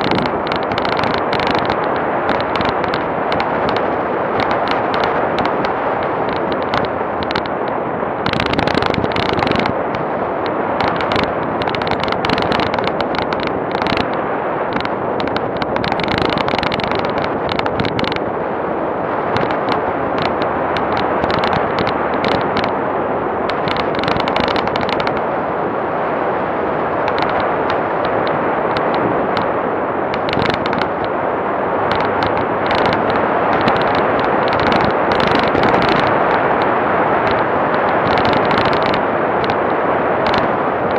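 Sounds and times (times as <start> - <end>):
vehicle rumbling on dirt road: 0.0 - 40.9.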